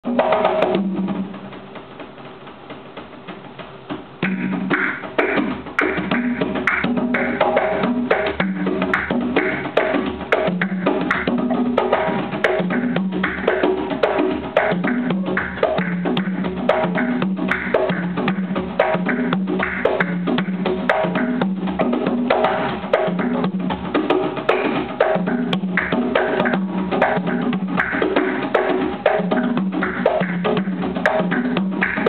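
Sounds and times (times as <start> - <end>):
hand drums playing rhythm: 0.0 - 32.0.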